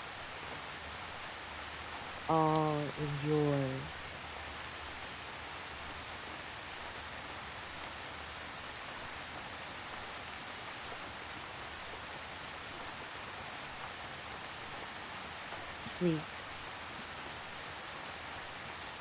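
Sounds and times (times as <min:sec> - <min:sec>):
gentle rain hissing: 0:00.0 - 0:19.0.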